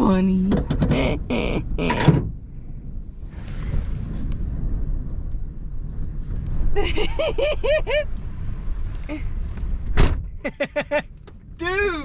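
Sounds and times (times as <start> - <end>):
wind buffeting microphone: 0.6 - 10.4.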